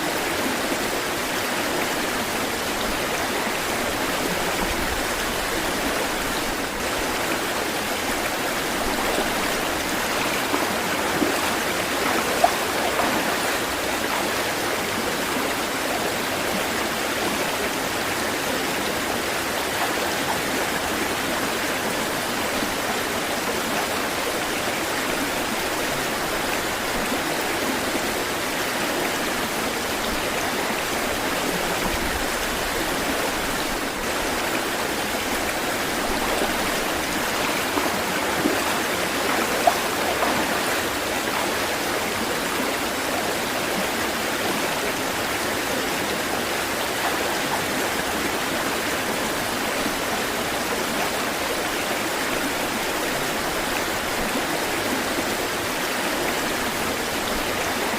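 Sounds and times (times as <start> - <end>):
stream water rushing: 0.0 - 57.9
water splashes: 0.0 - 57.9.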